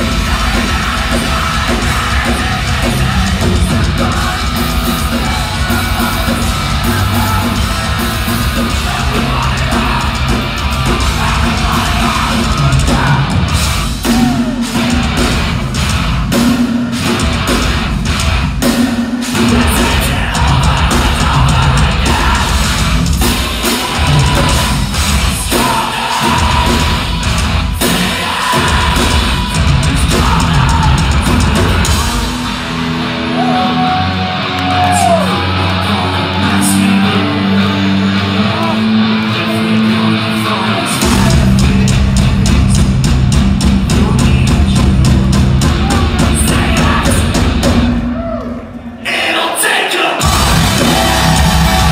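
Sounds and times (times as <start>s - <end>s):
pounding drums: 0.0s - 33.9s, 40.9s - 51.9s
distorted guitars: 0.0s - 51.9s
singing and yelled vocals: 0.0s - 51.9s.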